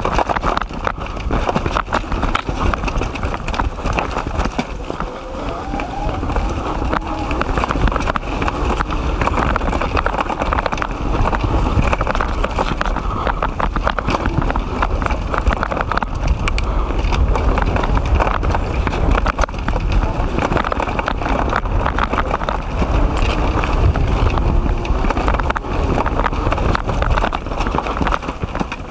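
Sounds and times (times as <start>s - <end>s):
bike and chain rattling: 0.0s - 28.9s
bike tyres rumbling on dirt: 0.0s - 28.9s
wind buffeting microphone: 0.0s - 28.9s.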